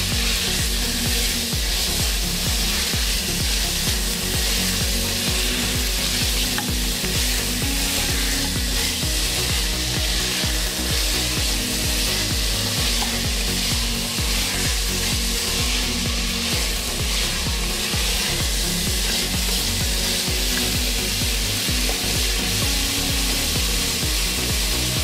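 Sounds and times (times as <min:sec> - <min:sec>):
background music: 0:00.0 - 0:25.0
food sizzling in a pan: 0:00.0 - 0:25.0.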